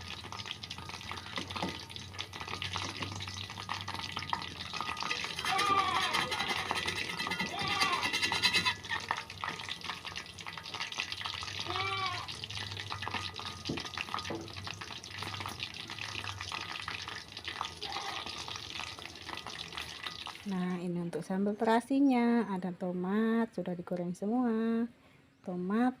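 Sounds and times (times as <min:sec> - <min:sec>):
food frying in hot oil: 0:00.0 - 0:20.8.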